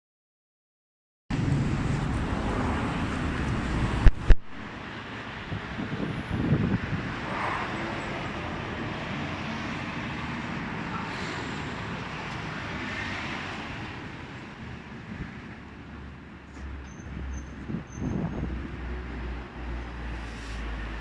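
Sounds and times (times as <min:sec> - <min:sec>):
motor vehicles rumbling: 0:01.3 - 0:21.0.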